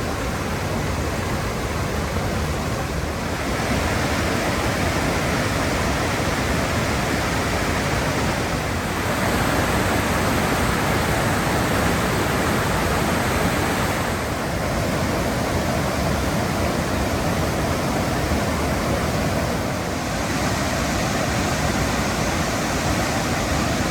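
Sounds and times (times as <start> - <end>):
waterfall roaring over rock: 0.0 - 23.9.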